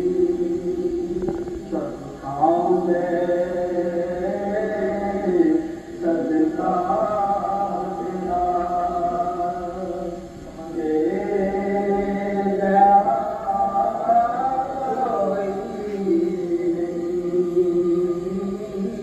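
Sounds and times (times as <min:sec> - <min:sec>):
person singing devotional poetry unaccompanied: 0:00.0 - 0:19.0.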